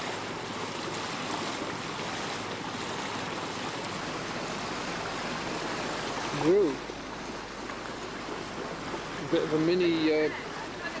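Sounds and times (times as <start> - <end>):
water rushing past boat: 0.0 - 11.0.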